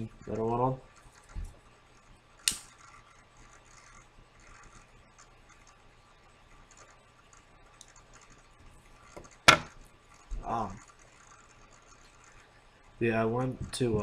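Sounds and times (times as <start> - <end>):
pipe tobacco crackling: 0.0 - 14.0.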